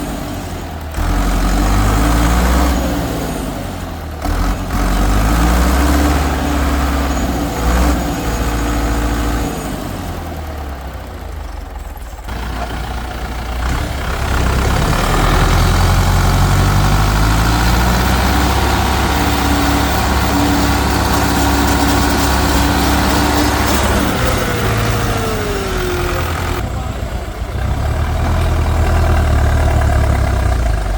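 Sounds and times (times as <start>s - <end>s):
tractor engine under load: 0.0s - 30.9s.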